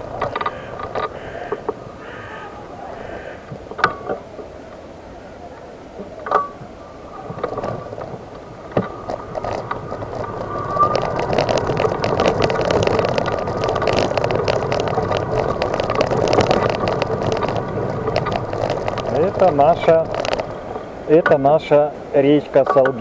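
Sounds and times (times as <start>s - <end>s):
wheelchair wheels rattling and clicking: 0.0s - 2.2s, 6.0s - 23.0s.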